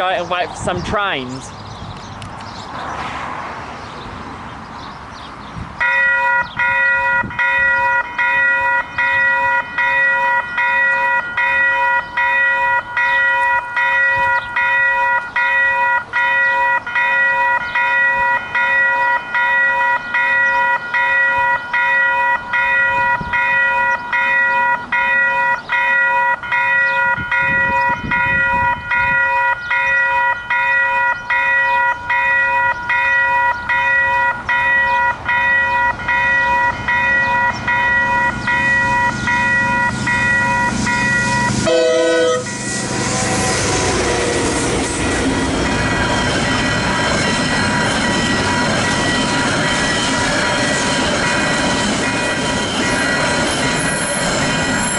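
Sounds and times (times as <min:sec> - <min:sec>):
diesel freight train approaching: 0:00.0 - 0:04.6, 0:05.8 - 0:54.9
level-crossing bells ringing: 0:05.8 - 0:43.7, 0:44.4 - 0:54.9.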